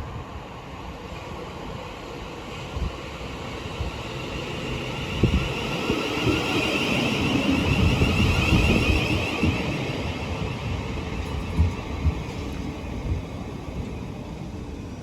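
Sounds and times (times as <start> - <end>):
electric train whine: 0.0 - 15.0.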